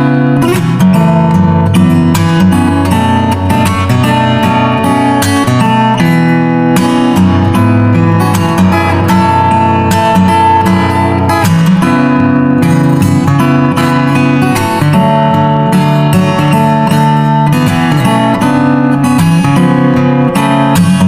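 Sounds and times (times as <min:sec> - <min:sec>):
acoustic guitar plucked and strummed: 0:00.0 - 0:21.0.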